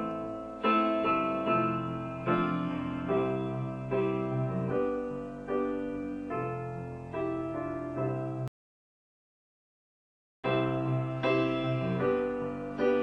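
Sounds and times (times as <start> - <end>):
slow gentle piano music: 0.0 - 8.5, 10.4 - 13.0.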